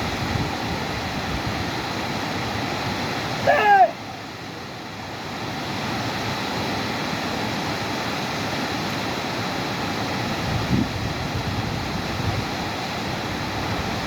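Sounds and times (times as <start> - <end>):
waterfall rushing water: 0.0 - 14.0.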